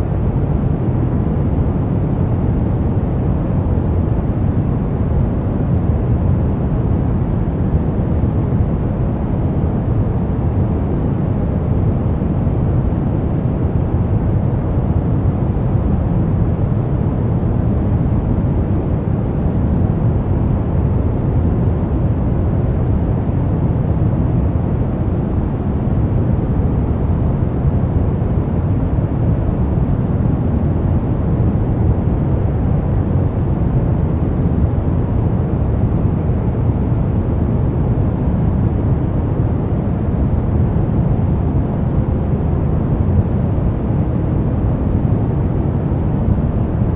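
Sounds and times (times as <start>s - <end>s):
brown noise: 0.0s - 46.9s.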